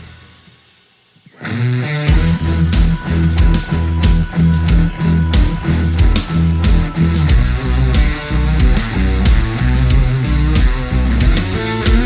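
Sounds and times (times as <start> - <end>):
guitar: 0.0 - 12.0
rock band music: 0.0 - 12.0
heavy drum beat: 2.1 - 12.0.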